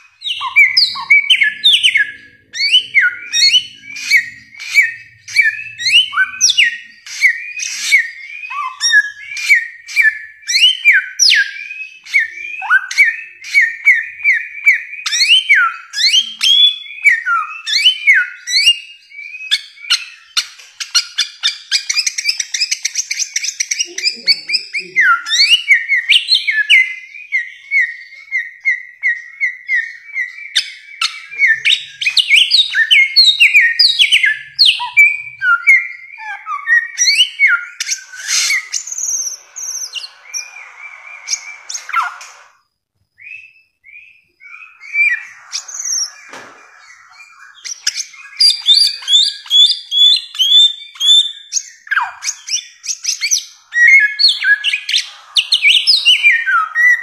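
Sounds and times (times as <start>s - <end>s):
bird singing whistled song: 0.0s - 57.0s.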